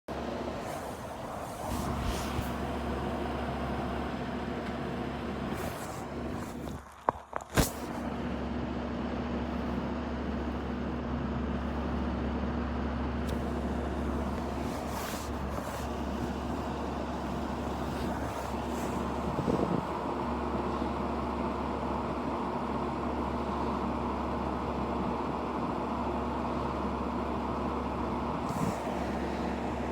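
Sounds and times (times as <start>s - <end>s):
electric fan running: 0.1s - 29.9s.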